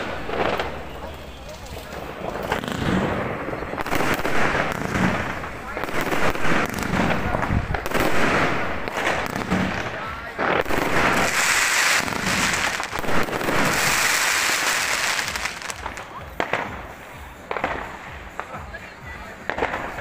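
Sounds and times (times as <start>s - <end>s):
dense firecracker crackle: 0.0s - 20.0s
fireworks bangs and pops: 0.0s - 20.0s.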